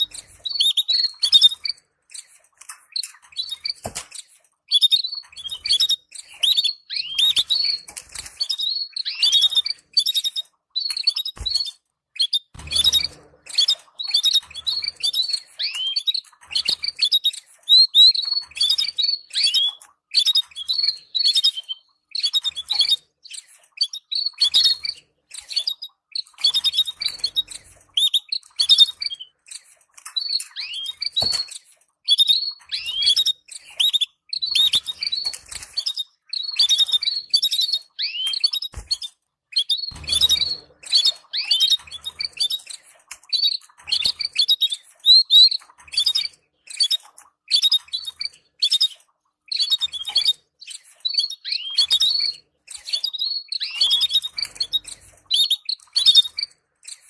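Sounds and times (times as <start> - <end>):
canaries chirping: 0.0 - 57.0.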